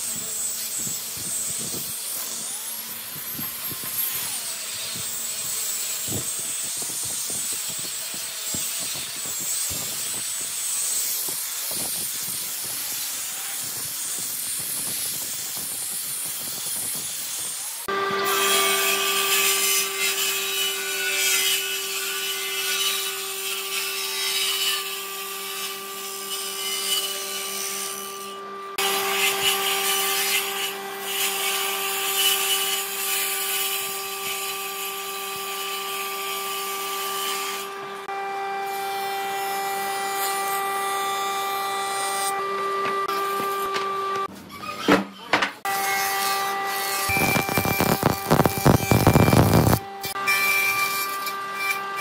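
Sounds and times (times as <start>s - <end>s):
saw motor humming: 0.0s - 44.3s, 45.6s - 52.0s
saw cutting wood: 0.0s - 52.0s.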